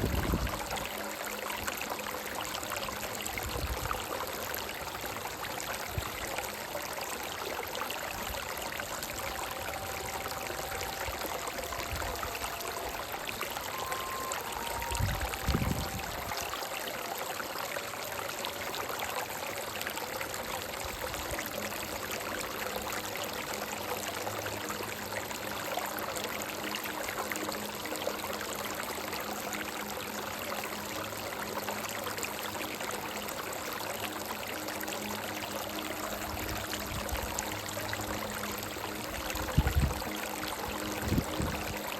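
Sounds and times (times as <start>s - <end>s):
stream running over rocks: 0.0s - 41.9s.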